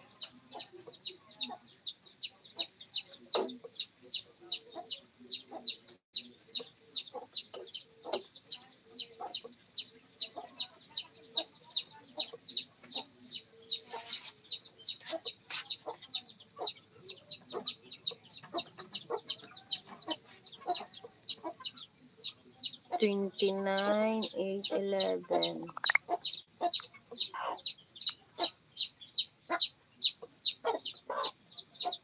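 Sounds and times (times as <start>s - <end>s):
chick peeping: 0.0s - 32.0s.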